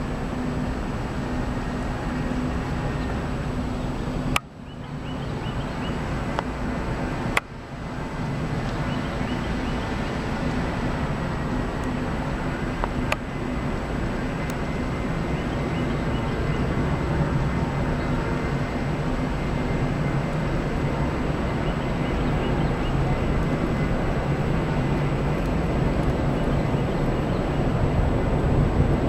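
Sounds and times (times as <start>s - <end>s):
jet engine noise: 0.0s - 29.0s.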